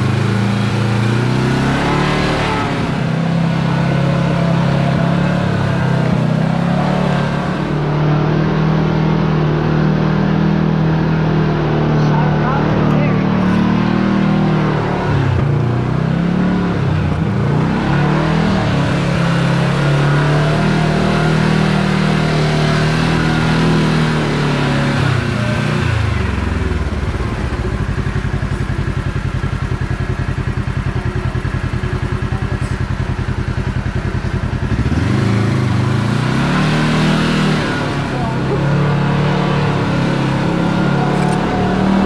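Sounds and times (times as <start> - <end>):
off-road vehicle engine under load: 0.0 - 42.0.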